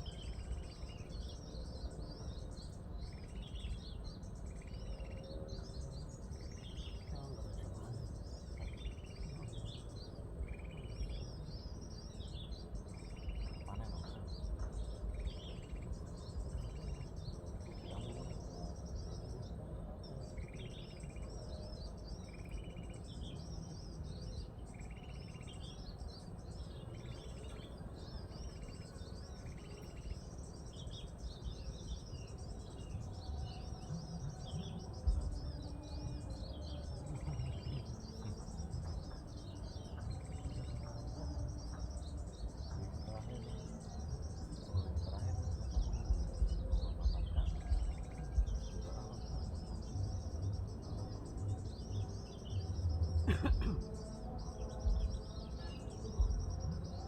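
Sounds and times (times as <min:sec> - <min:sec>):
bird chirping: 0:00.0 - 0:57.0
rapid bird twittering: 0:00.0 - 0:57.0.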